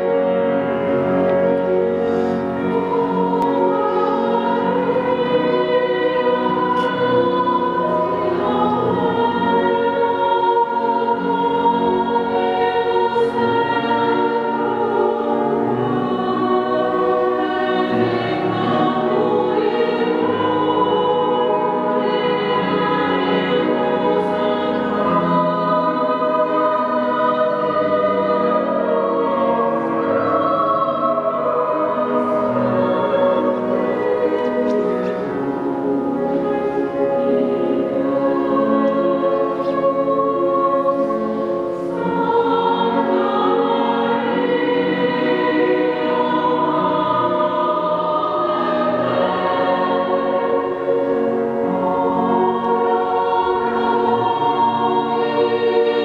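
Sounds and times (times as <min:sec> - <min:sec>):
women's choir singing: 0:00.0 - 0:56.0.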